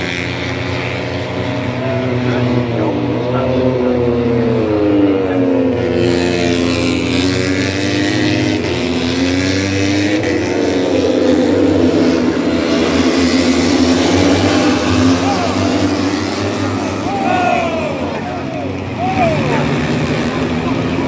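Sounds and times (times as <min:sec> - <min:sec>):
racing motorcycle engines: 0:00.0 - 0:21.0.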